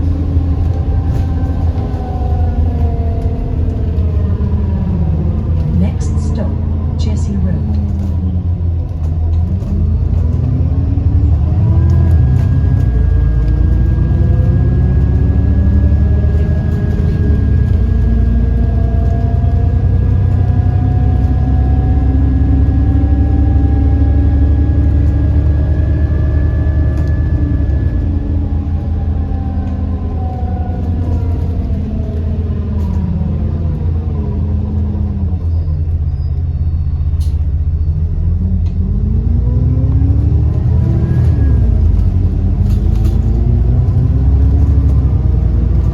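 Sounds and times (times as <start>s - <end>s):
bus diesel engine: 0.0s - 45.9s
loud axle whine: 0.0s - 45.9s.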